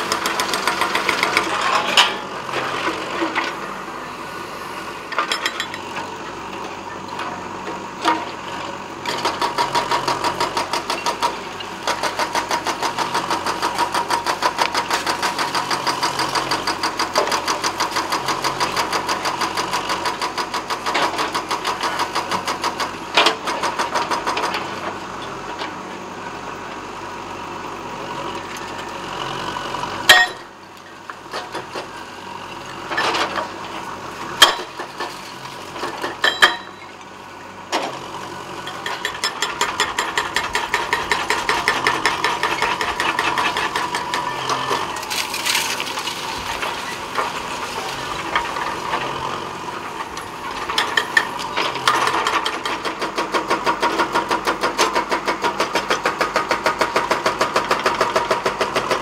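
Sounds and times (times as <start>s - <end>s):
diesel engine working hard: 0.0s - 59.0s.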